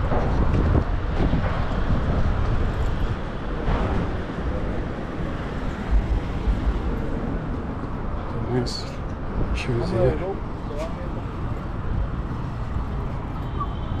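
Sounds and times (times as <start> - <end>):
rumble of traffic: 0.0 - 14.0
wind buffeting microphone: 0.0 - 14.0.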